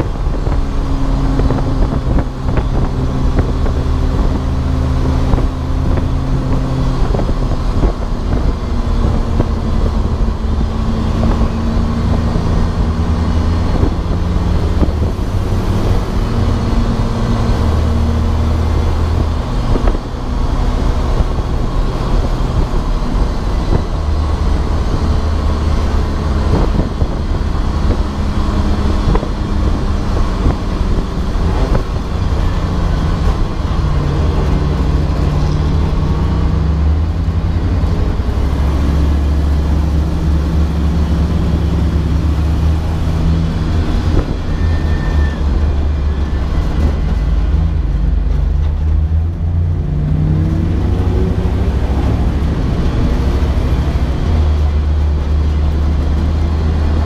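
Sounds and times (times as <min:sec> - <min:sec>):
race car engine under load: 0:00.0 - 0:57.0
road and wind noise: 0:00.0 - 0:57.0.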